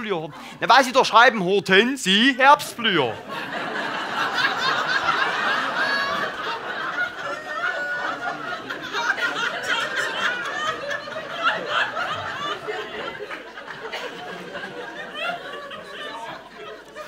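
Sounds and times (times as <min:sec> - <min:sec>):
audience laughing: 0:02.5 - 0:17.0.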